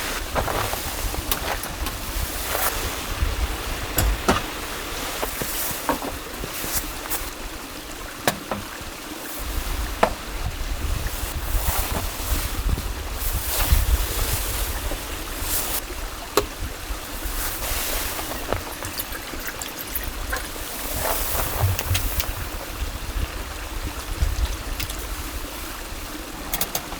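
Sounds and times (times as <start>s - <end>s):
wind rumbling on microphone: 0.0s - 8.1s, 8.8s - 26.9s
rushing water: 0.0s - 26.9s.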